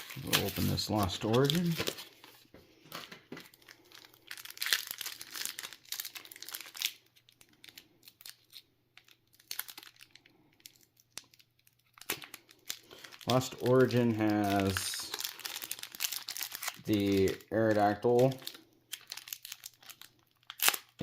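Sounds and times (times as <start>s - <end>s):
foil wrapper tearing and crinkling: 0.0s - 2.4s, 3.4s - 21.0s.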